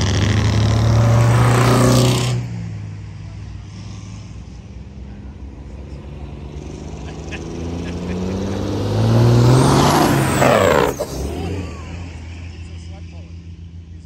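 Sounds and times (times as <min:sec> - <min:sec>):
diesel truck engine passing: 0:00.0 - 0:04.4, 0:05.1 - 0:14.0.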